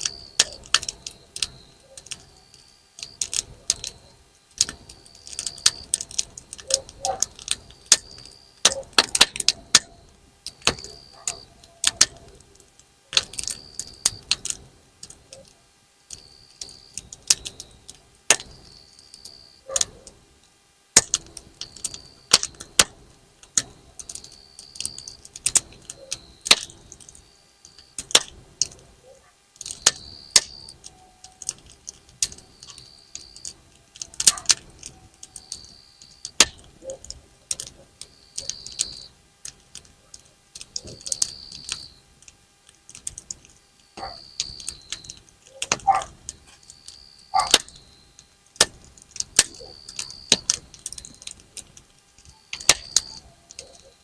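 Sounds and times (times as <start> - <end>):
campfire crackling and popping: 0.0 - 54.0
fire hissing: 0.0 - 54.0.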